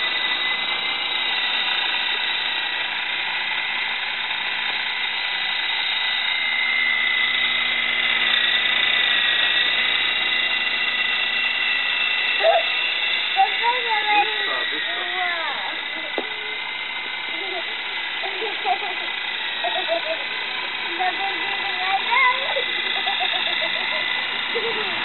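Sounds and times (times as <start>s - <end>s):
rc helicopter motor whine: 0.0s - 25.0s.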